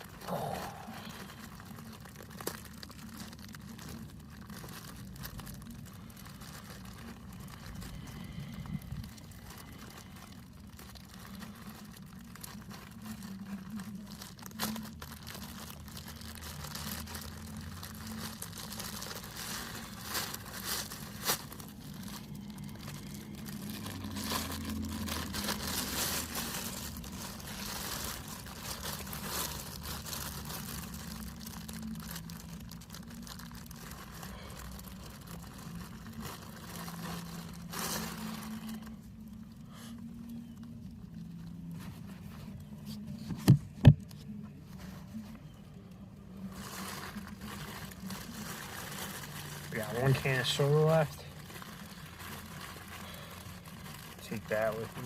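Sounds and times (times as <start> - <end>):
paper crinkling and rustling: 0.0 - 55.0.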